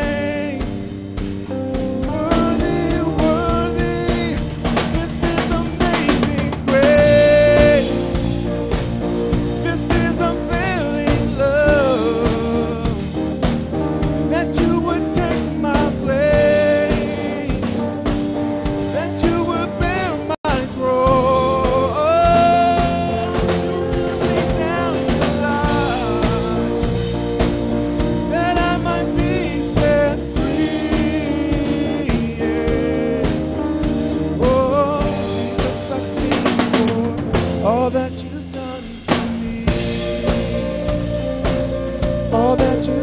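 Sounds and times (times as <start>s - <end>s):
man singing into microphone: 0.0s - 8.7s, 9.4s - 43.0s
drum kit: 0.0s - 43.0s
electric bass: 0.0s - 43.0s
keyboard: 0.0s - 43.0s.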